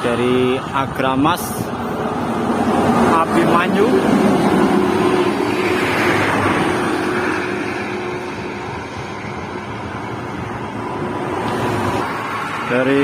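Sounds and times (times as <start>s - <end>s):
steady traffic noise: 0.0s - 13.0s
bus driving past: 1.4s - 13.0s.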